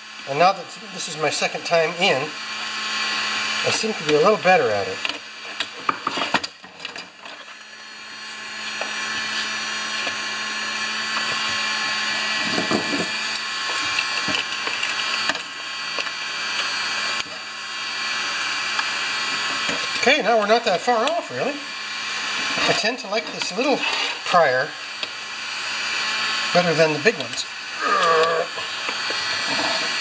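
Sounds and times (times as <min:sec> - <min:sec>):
heater fan whirring: 0:00.0 - 0:30.0.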